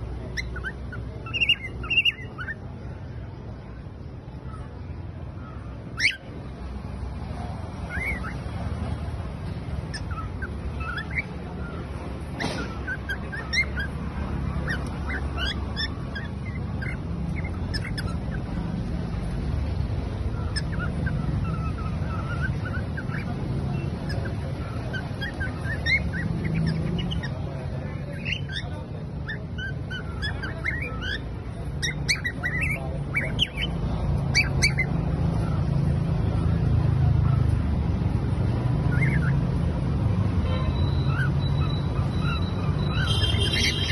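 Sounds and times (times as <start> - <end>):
cockatiels chirping: 0.0 - 3.6, 4.4 - 43.9.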